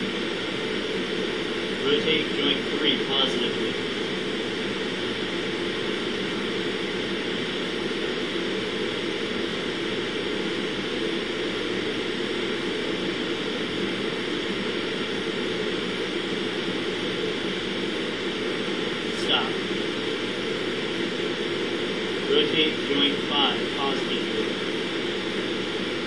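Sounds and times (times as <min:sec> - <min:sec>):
fan and ventilation noise: 0:00.0 - 0:26.0.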